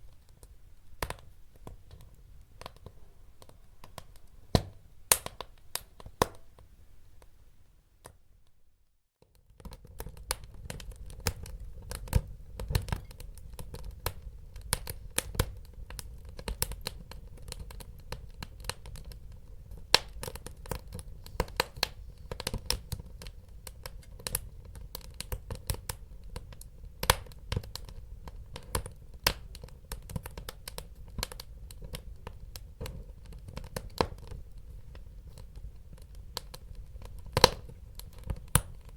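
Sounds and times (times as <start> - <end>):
wood fire crackling: 0.0 - 7.3, 9.4 - 38.9.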